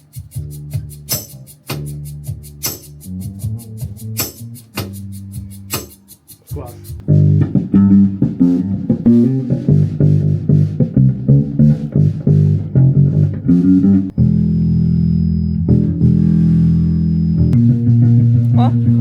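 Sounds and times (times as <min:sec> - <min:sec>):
guitars and bass playing: 0:00.0 - 0:19.0.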